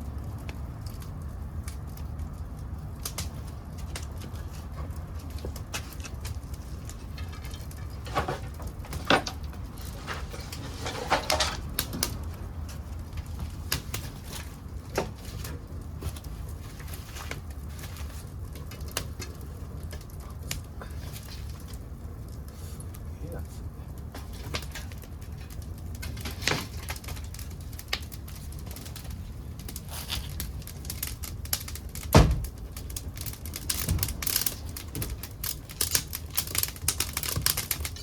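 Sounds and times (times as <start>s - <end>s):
low rush of fire: 0.0s - 38.0s
wood fire crackling and popping: 0.0s - 38.0s.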